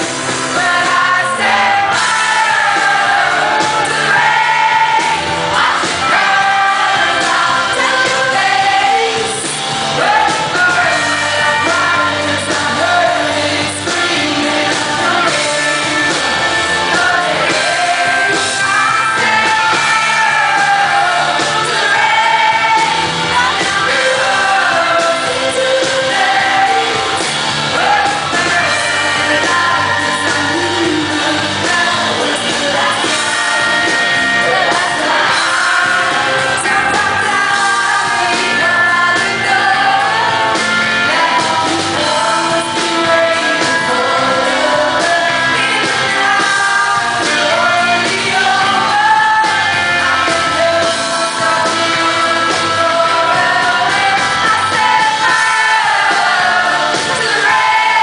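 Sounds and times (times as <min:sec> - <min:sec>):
full band playing: 0:00.0 - 0:58.0
woman singing pop ballad: 0:00.3 - 0:58.0.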